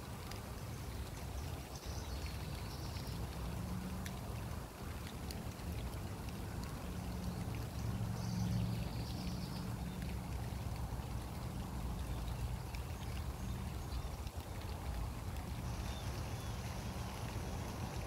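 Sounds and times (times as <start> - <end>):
rain falling on grass and leaves: 0.0 - 18.0.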